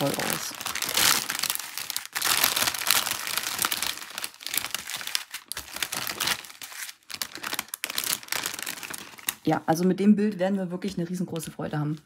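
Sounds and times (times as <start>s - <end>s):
plastic sheeting crinkling: 0.0s - 9.8s.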